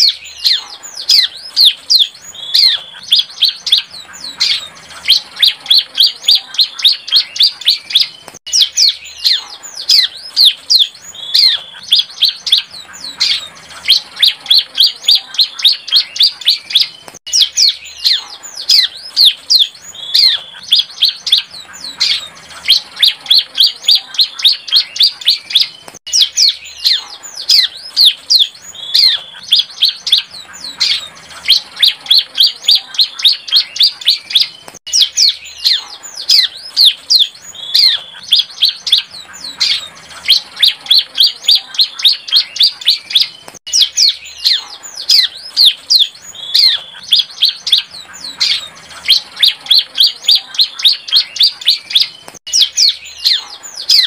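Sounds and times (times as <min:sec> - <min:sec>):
bird singing high chirps: 0:00.0 - 0:54.0.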